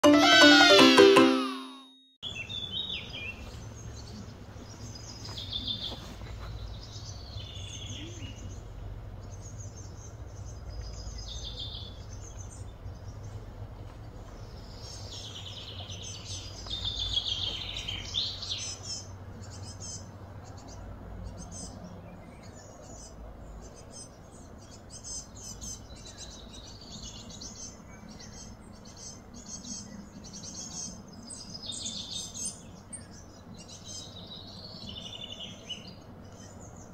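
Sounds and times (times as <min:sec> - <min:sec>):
birds chirping: 0:02.2 - 0:36.9.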